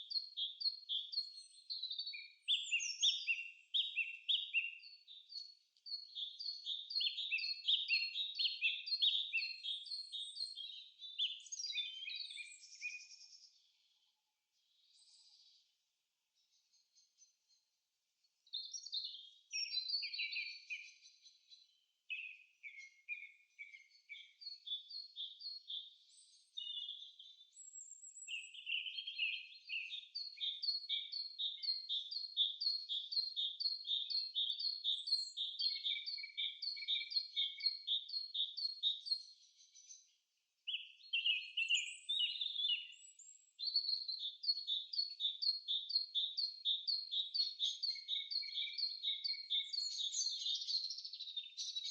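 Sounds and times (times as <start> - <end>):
bird chirping: 0.0 - 15.8, 16.4 - 51.9.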